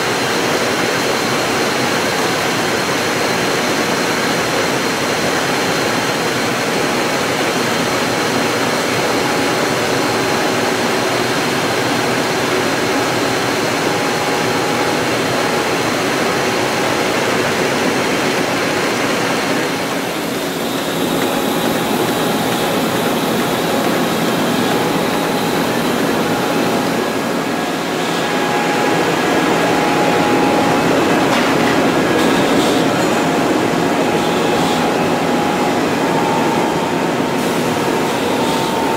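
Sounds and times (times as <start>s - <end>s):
faint machine whines: 0.0s - 38.9s
printing press running: 0.0s - 38.9s.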